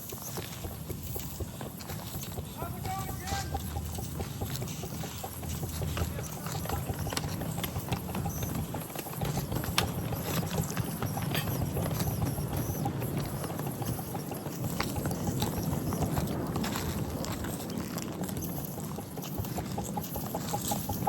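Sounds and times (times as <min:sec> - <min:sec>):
miniature train rumbling: 0:00.0 - 0:21.0
wheels clicking over rails: 0:00.0 - 0:21.0.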